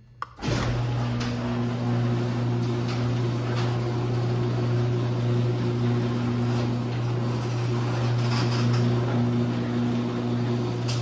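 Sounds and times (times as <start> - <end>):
garage door opener buzzing: 0.4 - 11.0.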